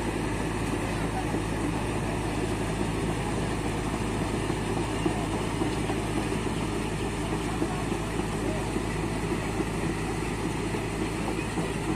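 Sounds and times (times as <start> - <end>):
excavator diesel engine idling: 0.0 - 11.9.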